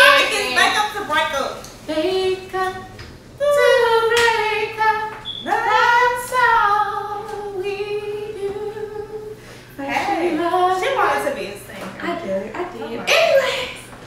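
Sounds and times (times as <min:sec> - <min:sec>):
women singing a cappella: 0:01.8 - 0:13.9.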